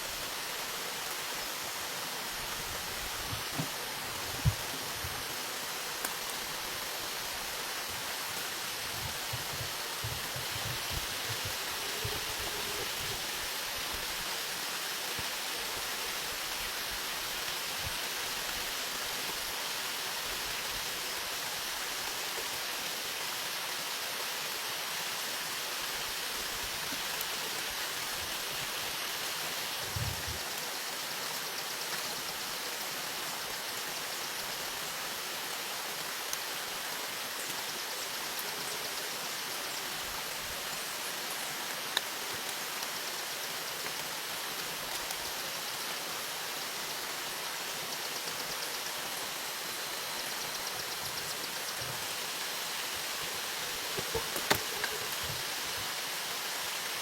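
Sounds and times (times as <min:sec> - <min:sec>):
water rushing: 0:00.0 - 0:57.0.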